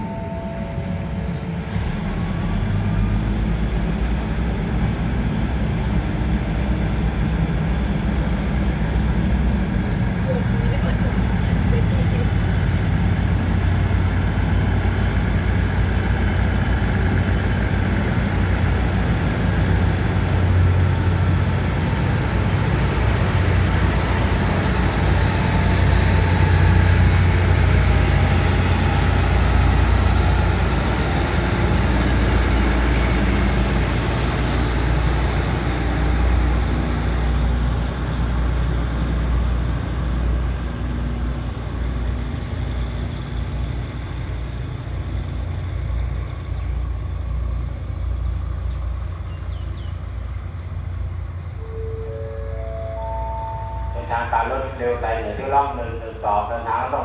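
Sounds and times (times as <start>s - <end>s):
diesel train engines running: 0.0s - 57.0s.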